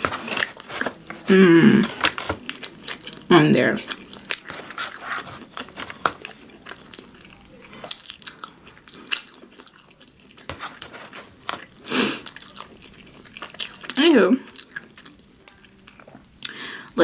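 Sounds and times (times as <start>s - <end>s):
crunchy chewing: 0.0s - 16.6s.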